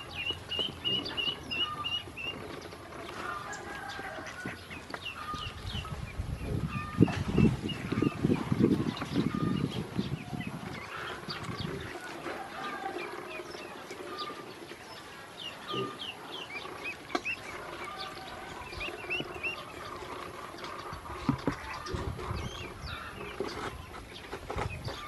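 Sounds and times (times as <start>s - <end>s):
ducklings peeping: 0.0s - 25.0s.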